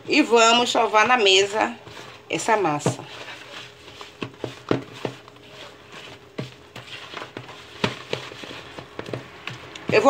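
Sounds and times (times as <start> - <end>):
fork stirring dough in bowl: 0.0 - 10.0.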